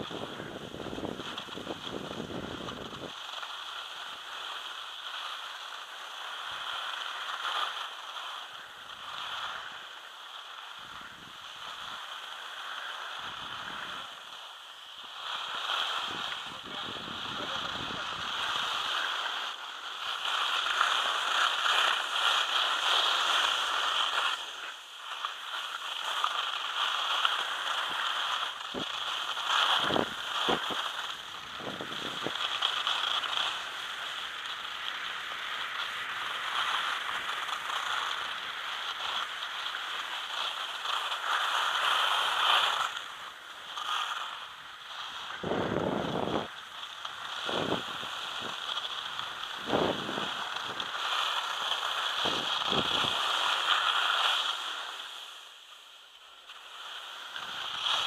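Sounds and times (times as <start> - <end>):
skis scraping over snow: 0.0 - 58.0.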